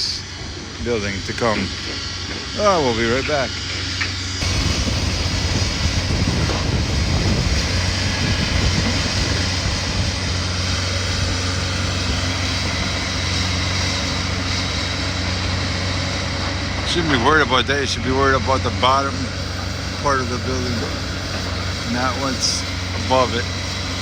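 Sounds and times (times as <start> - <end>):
large engine running: 0.0 - 24.0.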